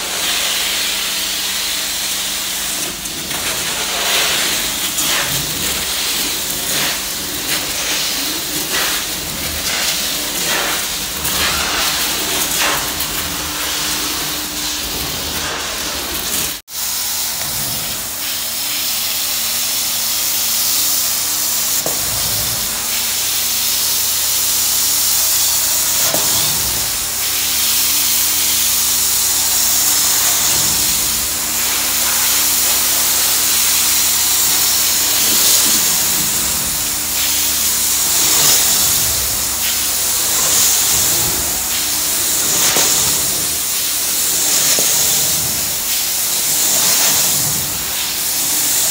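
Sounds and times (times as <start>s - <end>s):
carpet cleaning wand hissing: 0.0s - 16.6s, 24.4s - 48.9s.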